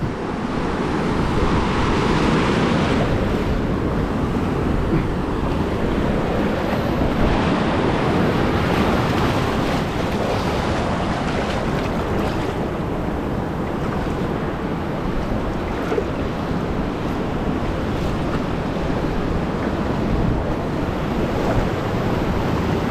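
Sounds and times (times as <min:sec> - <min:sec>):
surf breaking around boat hull: 0:00.0 - 0:22.9
wind rumbling on microphone: 0:00.0 - 0:22.9.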